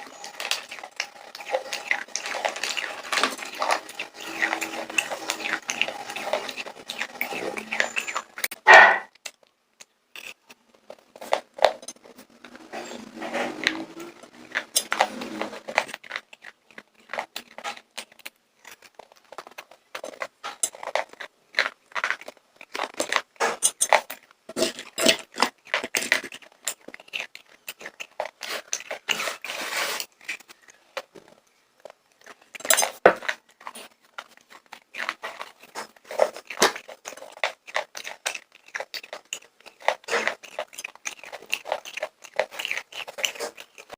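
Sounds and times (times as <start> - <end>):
popcorn chewing crunches: 0.0 - 43.9.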